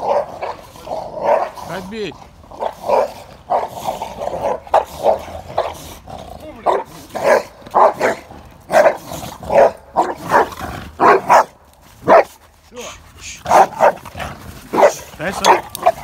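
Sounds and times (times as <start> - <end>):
dogs barking: 0.0 - 1.8, 2.6 - 5.9, 6.6 - 12.4, 13.4 - 16.0.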